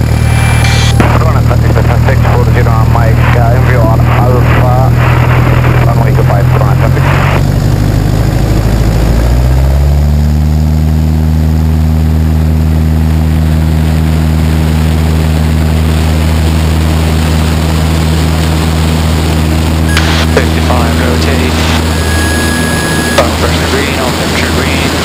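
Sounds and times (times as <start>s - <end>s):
propeller aircraft engine: 0.0s - 25.0s.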